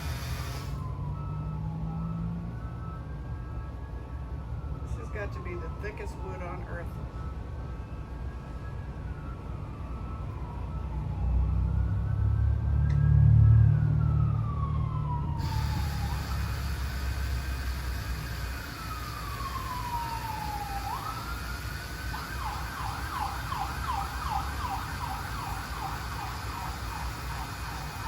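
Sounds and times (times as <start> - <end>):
emergency siren wailing and yelping: 0.0 - 28.0.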